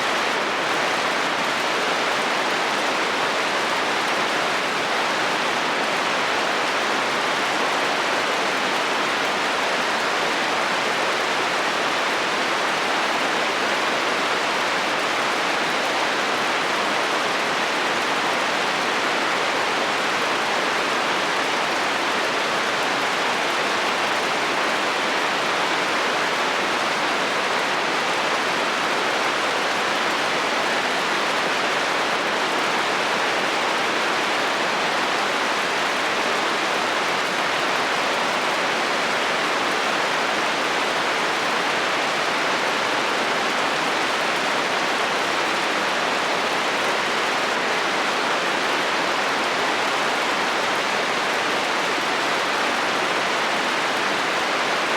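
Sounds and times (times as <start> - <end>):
heavy rain on a metal roof: 0.0 - 54.9.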